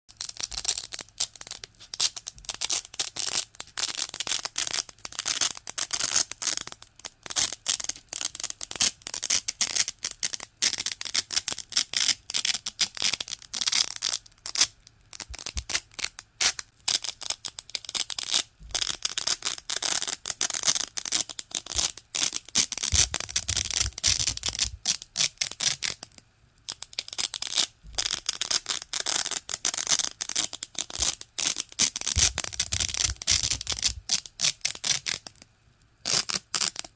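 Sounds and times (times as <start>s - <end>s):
velcro pulled apart crackling: 0.1s - 36.9s.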